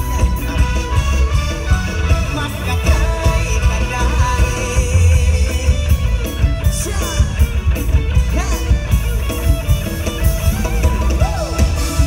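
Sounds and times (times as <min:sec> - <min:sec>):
live band music through pa: 0:00.0 - 0:12.0.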